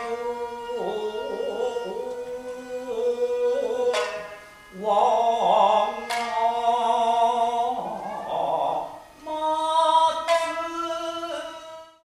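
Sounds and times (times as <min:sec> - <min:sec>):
shamisen plucks: 0:00.0 - 0:11.8
person singing long held notes: 0:00.0 - 0:12.0.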